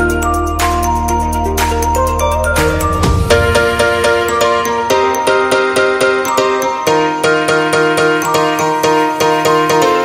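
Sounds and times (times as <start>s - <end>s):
music with bright struck notes: 0.0s - 10.0s.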